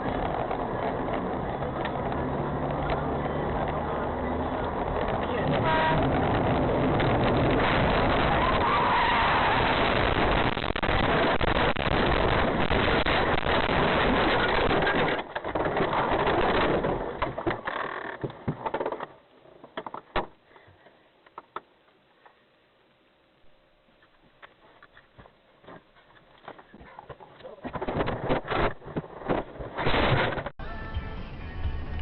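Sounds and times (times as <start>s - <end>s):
car road and engine noise: 0.0s - 20.4s, 24.5s - 32.0s.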